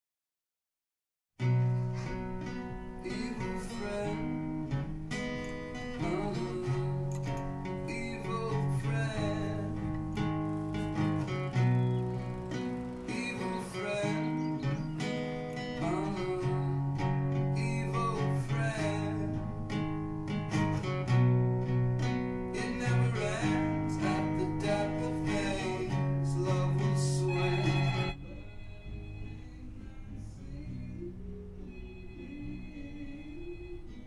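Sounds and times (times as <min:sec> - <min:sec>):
acoustic guitar playing: 0:01.4 - 0:34.0
low held bass notes: 0:01.5 - 0:33.3.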